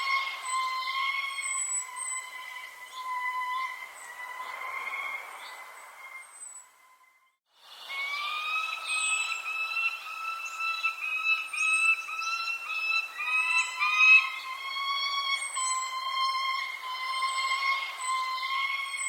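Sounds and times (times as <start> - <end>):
high falling bird chirps: 0.0 - 19.0
whistled bird notes: 0.0 - 19.0.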